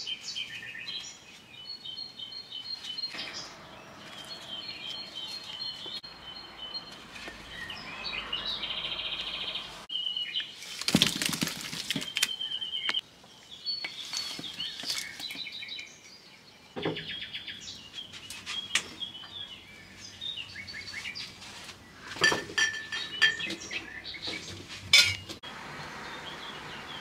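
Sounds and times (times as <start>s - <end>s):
small birds chirping: 0.0s - 10.9s, 11.9s - 27.0s.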